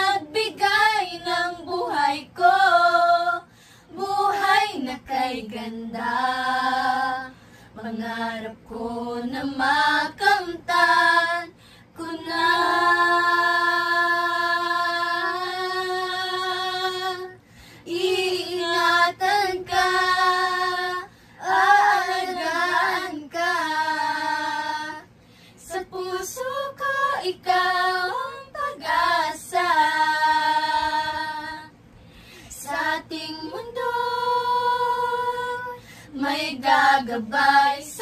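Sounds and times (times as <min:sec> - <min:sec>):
girls singing together: 0:00.0 - 0:31.8, 0:32.5 - 0:38.0.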